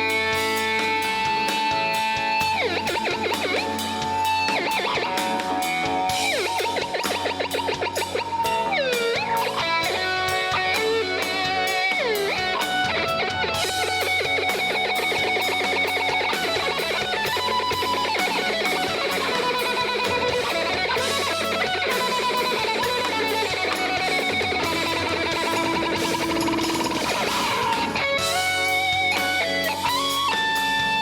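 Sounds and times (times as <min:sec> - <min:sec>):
electric guitar rapid runs: 0:00.0 - 0:31.0
rock band playing: 0:00.0 - 0:31.0.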